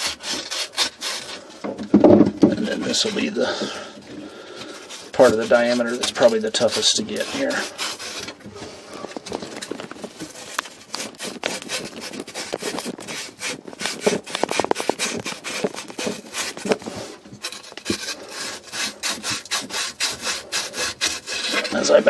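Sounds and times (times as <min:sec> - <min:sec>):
emery cloth scraping copper pipe: 0:00.0 - 0:22.0.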